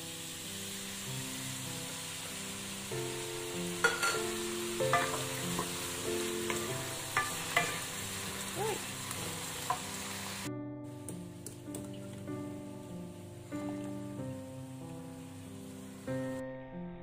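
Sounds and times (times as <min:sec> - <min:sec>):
vegetables sizzling in a wok: 0:00.0 - 0:10.5, 0:12.3 - 0:16.4.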